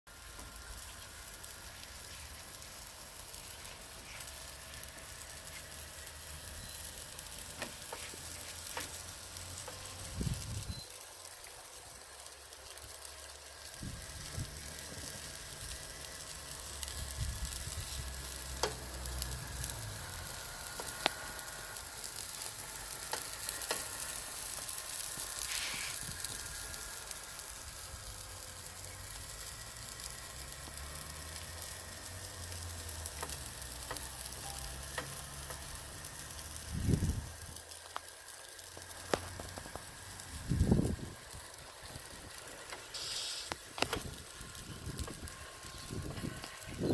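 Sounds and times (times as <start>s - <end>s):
food sizzling in a frypan: 0.1s - 46.9s.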